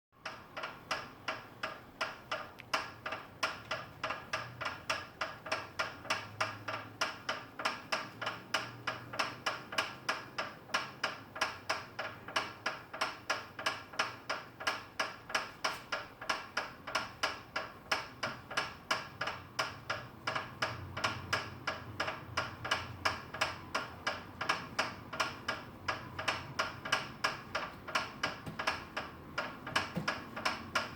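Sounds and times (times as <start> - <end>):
exercise bike clicking: 0.2 - 30.9.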